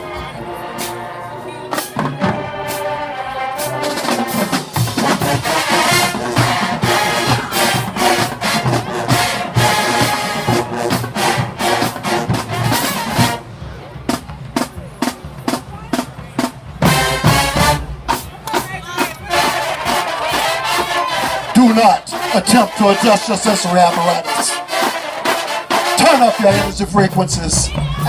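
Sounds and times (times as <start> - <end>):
brass holding chords: 0.0 - 13.6, 16.8 - 18.2, 19.2 - 27.8
marching drums beat: 3.6 - 28.0.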